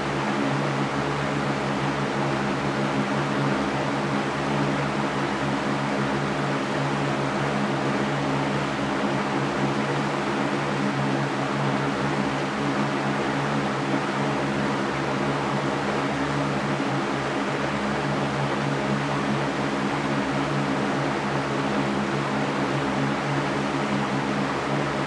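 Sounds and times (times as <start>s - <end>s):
electric fan rushing air: 0.0s - 25.0s.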